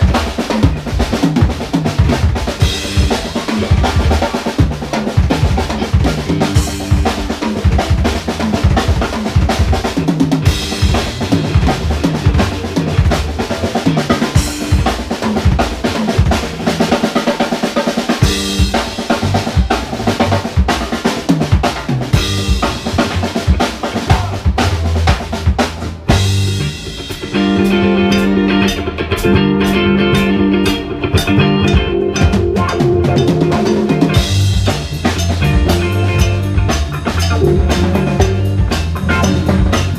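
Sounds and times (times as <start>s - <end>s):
drum kit kick and snare: 0.0s - 29.3s, 30.2s - 39.9s
rock band playing: 0.0s - 39.9s.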